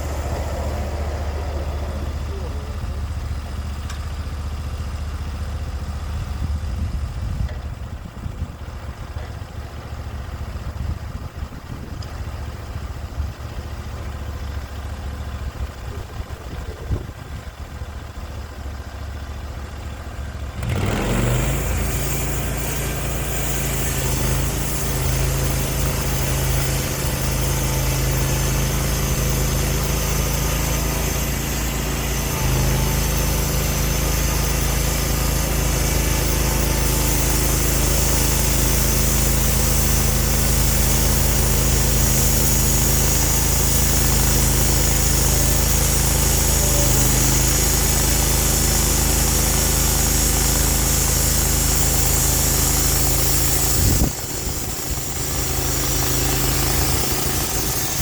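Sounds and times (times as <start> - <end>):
gasoline engine running: 0.0 - 58.0.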